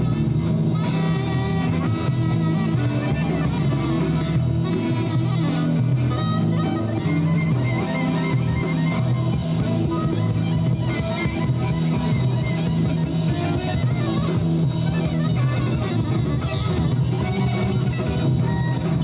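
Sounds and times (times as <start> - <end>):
instrumental music with low bass: 0.0 - 19.0.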